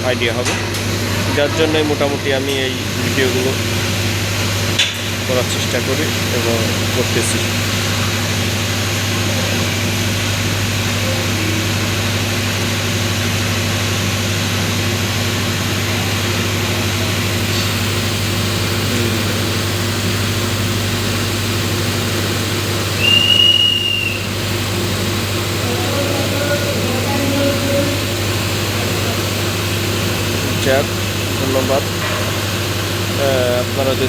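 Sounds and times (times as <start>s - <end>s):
construction machinery engines droning: 0.0s - 34.0s.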